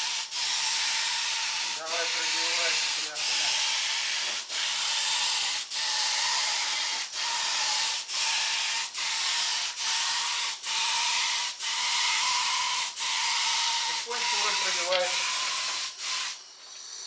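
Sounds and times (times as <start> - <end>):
paint spray gun hissing: 0.0 - 17.0.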